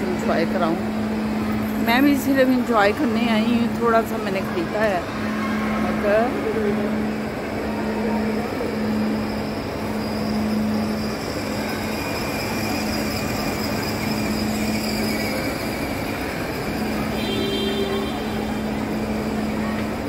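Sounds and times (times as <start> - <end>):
rushing background noise: 0.0 - 20.0.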